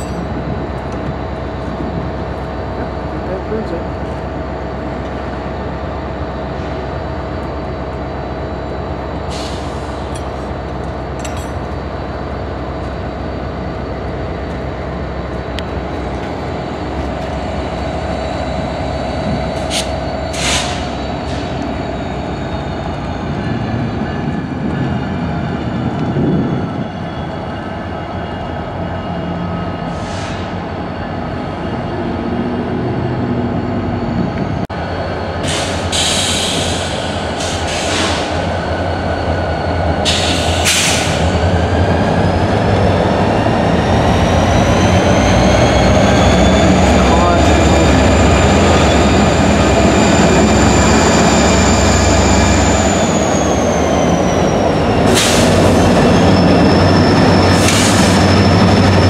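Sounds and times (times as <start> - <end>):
diesel locomotive engines droning: 0.0 - 59.0.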